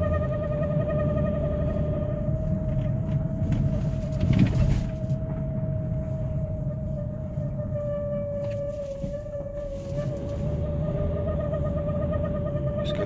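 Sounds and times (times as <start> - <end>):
engine and road rumble: 0.0 - 13.0
high-pitched squealing whine: 0.0 - 13.0.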